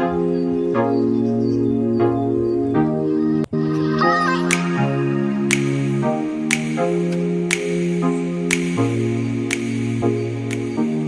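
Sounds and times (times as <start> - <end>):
calm sustained music chords: 0.0 - 11.0
light tick on beat: 0.0 - 11.0.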